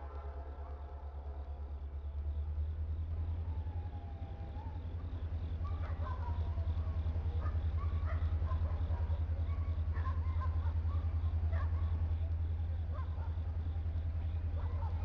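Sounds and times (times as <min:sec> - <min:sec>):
diesel locomotive engine throbbing: 0:00.0 - 0:15.0.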